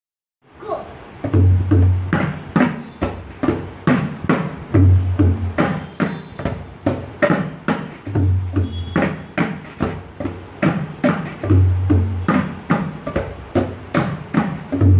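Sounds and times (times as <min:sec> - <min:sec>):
tabla drumming: 0:01.0 - 0:14.9.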